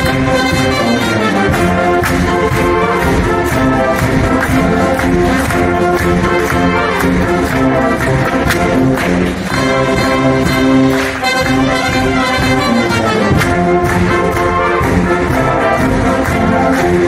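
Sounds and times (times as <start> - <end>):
brass band playing a march: 0.0 - 17.0
drum strokes: 0.0 - 17.0.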